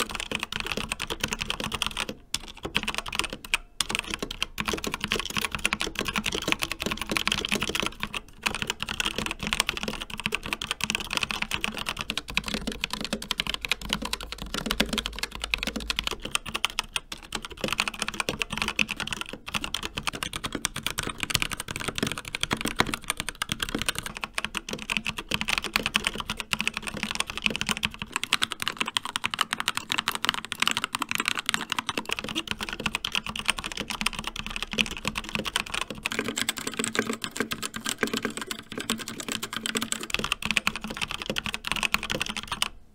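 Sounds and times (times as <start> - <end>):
fast typing on mechanical keyboard: 0.0 - 42.8.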